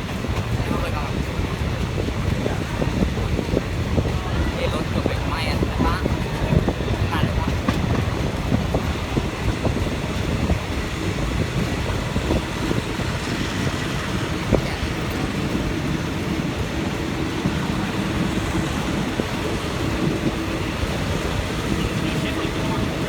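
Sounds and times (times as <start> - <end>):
coach rattling: 0.0 - 23.0
train wheels on rails: 0.0 - 23.0.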